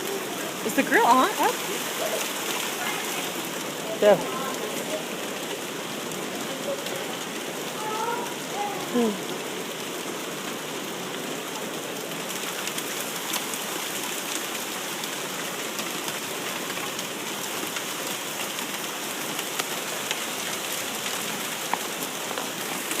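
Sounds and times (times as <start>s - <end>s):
hail falling hiss: 0.0s - 23.0s
hailstones clicking on hard surfaces: 0.1s - 9.1s, 11.8s - 23.0s.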